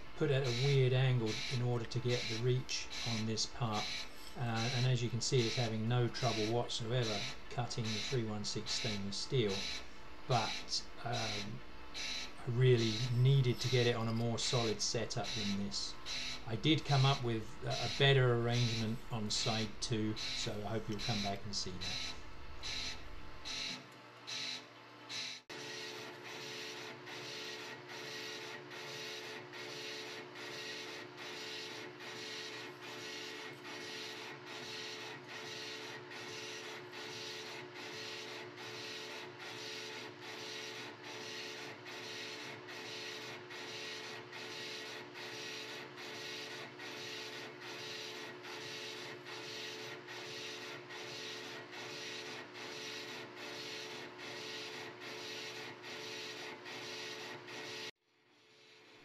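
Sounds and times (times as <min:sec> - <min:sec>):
lathe drive hum: 0:00.0 - 0:24.6, 0:25.2 - 0:57.9.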